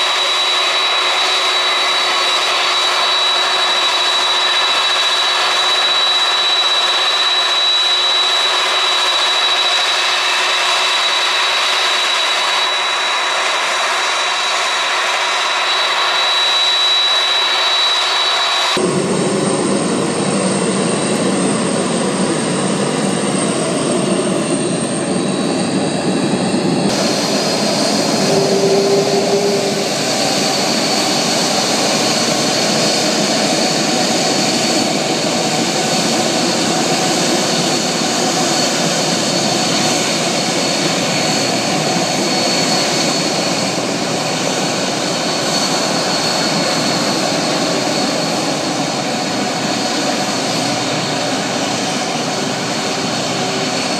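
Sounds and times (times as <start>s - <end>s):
jet engines rushing with high whine: 0.0s - 53.9s.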